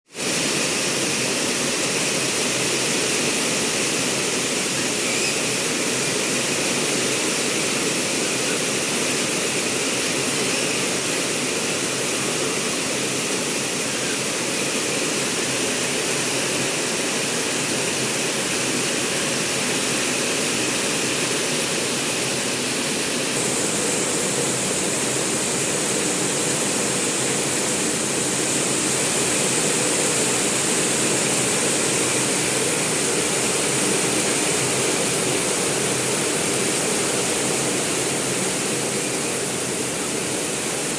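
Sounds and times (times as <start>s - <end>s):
heavy rain falling: 0.2s - 40.9s.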